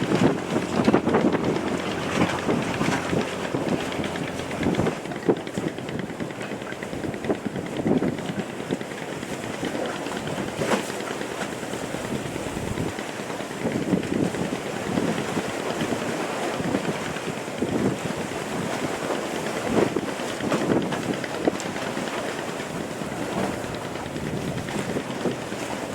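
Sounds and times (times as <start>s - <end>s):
water slapping boat hull: 0.0s - 25.9s
wind buffeting microphone: 0.0s - 25.9s.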